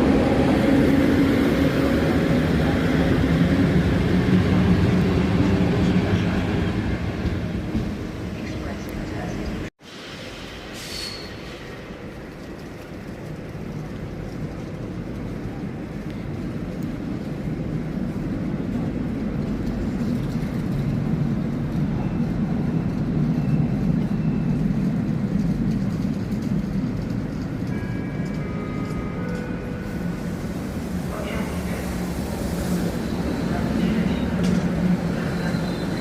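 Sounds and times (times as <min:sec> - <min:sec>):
locomotive rail rumble: 0:00.0 - 0:36.0.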